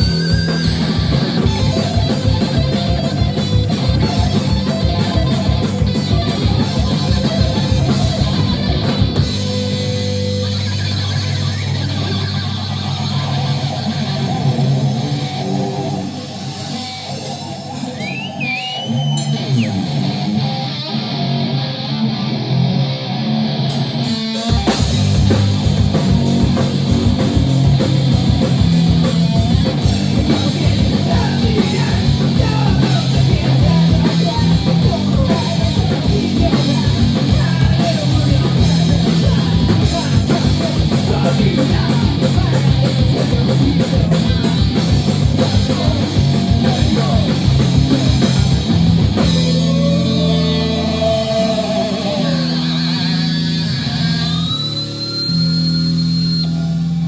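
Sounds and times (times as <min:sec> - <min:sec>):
drums with fast beat: 0:00.0 - 0:20.9, 0:23.6 - 0:57.0
distorted electric guitar: 0:00.0 - 0:57.0
rock band playing live: 0:00.0 - 0:57.0.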